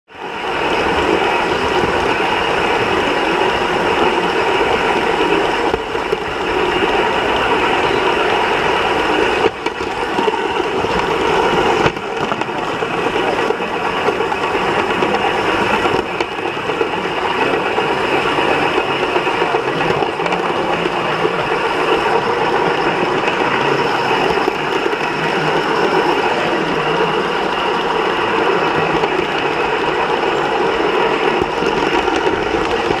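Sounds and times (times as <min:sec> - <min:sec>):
model train wheels clattering: 0:00.2 - 0:33.0.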